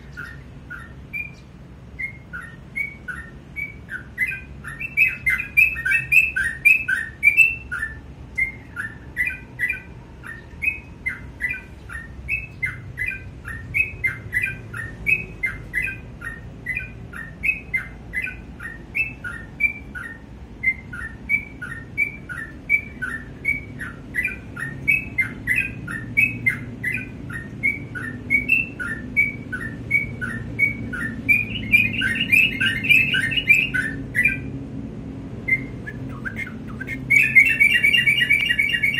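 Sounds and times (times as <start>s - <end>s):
bulbul singing chirping notes: 0.0s - 34.5s, 35.4s - 38.9s.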